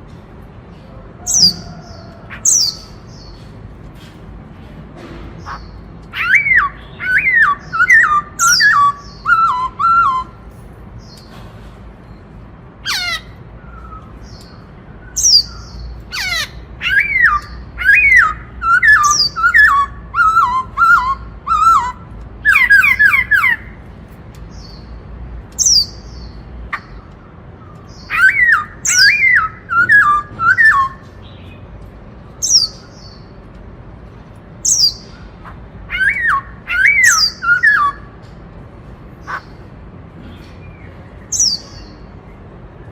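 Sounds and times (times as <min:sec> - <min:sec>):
bird singing: 0:00.7 - 0:03.6, 0:05.4 - 0:11.4, 0:12.0 - 0:33.4, 0:34.6 - 0:38.3, 0:39.1 - 0:42.5.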